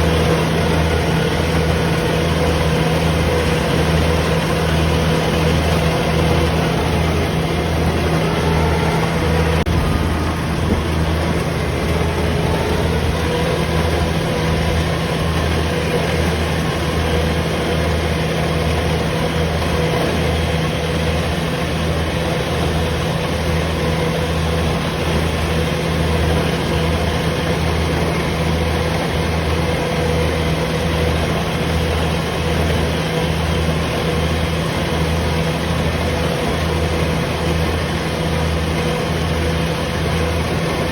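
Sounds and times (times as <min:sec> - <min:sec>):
combine harvester engine hum: 0:00.0 - 0:40.9.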